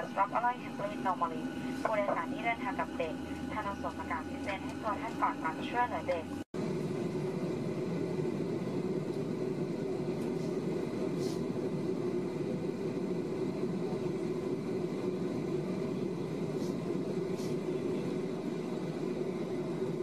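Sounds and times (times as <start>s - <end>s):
airplane cabin drone: 0.0s - 20.0s.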